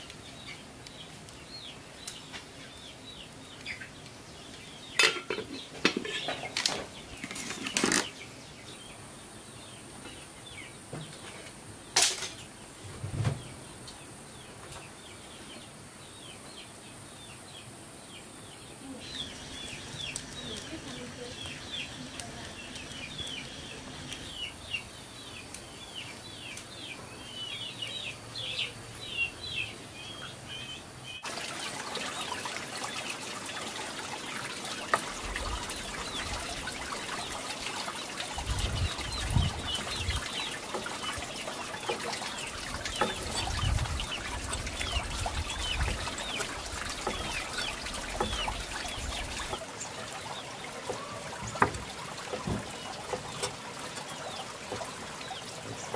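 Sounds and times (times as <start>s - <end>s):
trickling water: 0.0s - 10.8s, 18.5s - 55.9s
birds chirping: 0.0s - 55.9s.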